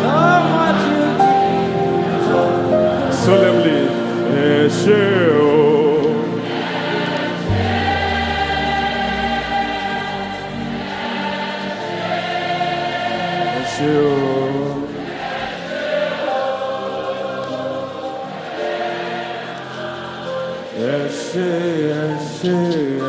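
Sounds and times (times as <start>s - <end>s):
group singing long notes: 0.0s - 23.0s
slow gospel worship music: 0.0s - 23.0s.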